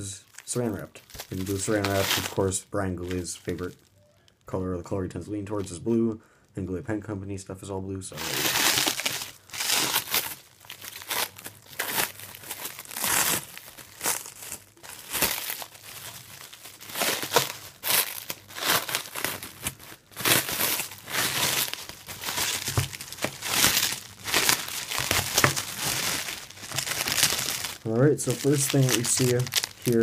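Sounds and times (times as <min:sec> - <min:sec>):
plastic cling wrap crinkling: 0:00.0 - 0:04.4, 0:08.2 - 0:30.0
cling wrap tearing: 0:00.3 - 0:03.8, 0:08.2 - 0:30.0.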